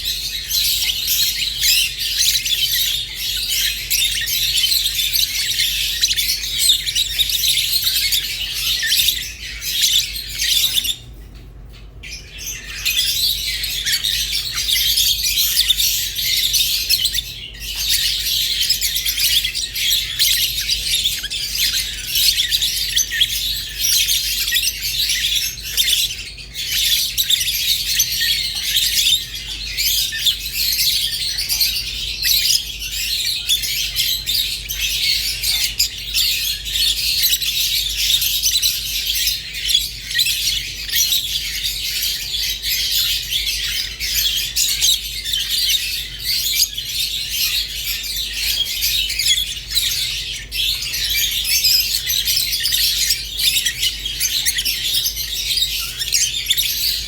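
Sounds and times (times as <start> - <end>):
lovebirds chattering: 0.0 - 57.0.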